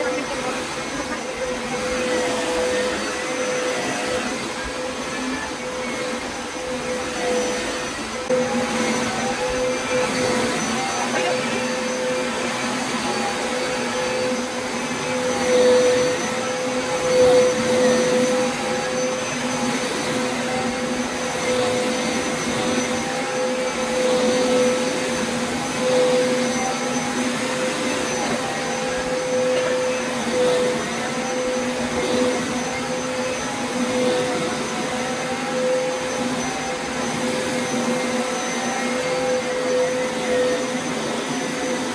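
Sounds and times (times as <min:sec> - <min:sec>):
carpet shampooer motor hum: 0:00.0 - 0:41.9.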